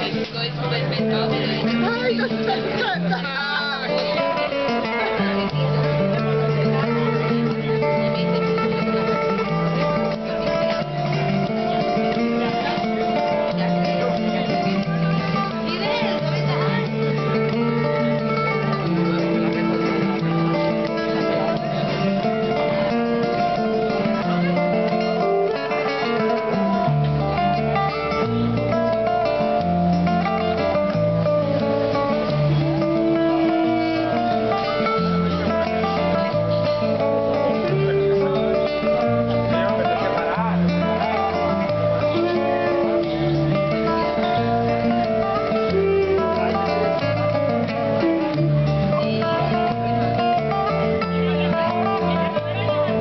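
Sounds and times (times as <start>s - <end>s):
bass notes: 0.0s - 53.0s
flamenco acoustic guitar: 0.0s - 53.0s.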